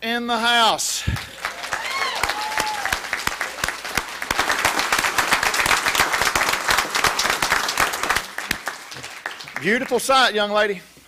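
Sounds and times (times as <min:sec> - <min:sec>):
congregation applauding: 0:01.0 - 0:10.4.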